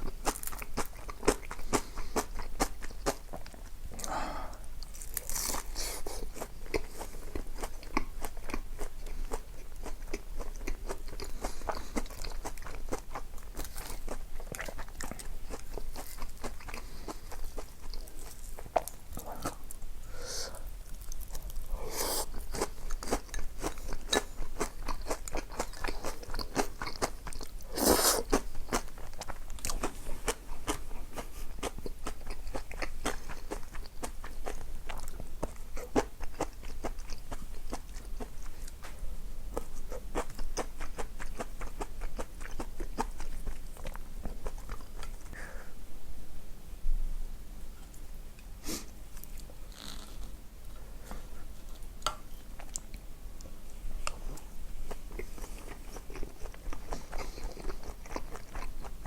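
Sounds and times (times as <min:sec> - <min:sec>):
person chewing crunchy food: 0:00.0 - 0:19.9, 0:20.9 - 0:45.4, 0:54.0 - 0:59.0.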